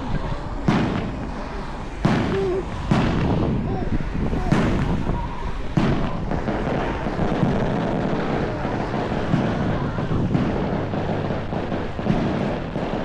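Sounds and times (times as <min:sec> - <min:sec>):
dense outdoor rumble: 0:00.0 - 0:13.0
firework bang: 0:00.0 - 0:13.0
wind buffeting microphone: 0:00.0 - 0:13.0.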